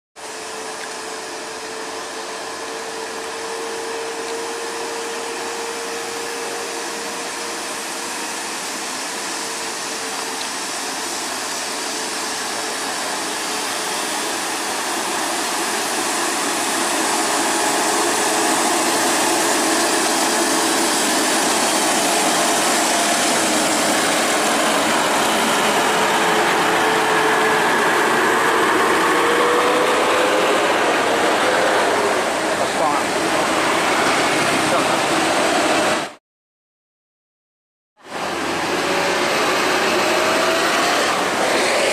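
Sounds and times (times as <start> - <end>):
diesel bus engines droning: 0.2 - 36.2, 38.1 - 41.9.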